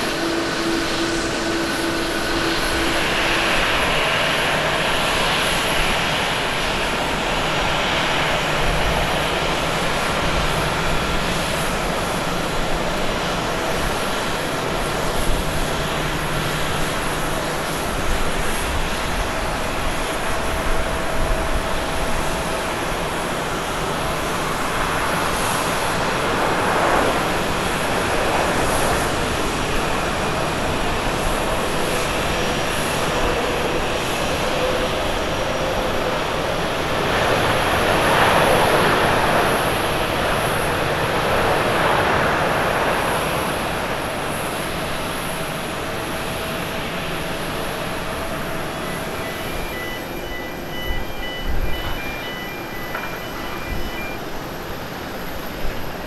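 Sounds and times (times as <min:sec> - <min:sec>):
jet engines hum: 0:00.0 - 0:56.0.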